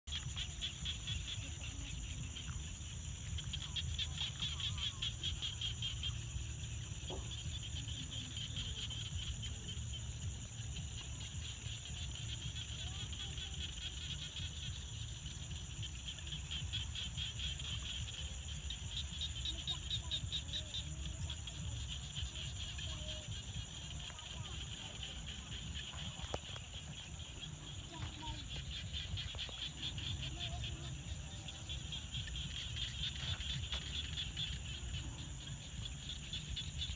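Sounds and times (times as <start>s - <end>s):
frogs calling: 0.1s - 36.9s.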